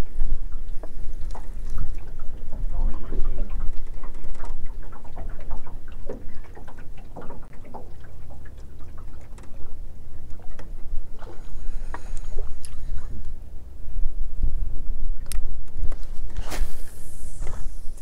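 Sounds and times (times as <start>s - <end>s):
waves lapping against boat hull: 0.0s - 18.0s
wind rumble on microphone: 0.0s - 18.0s.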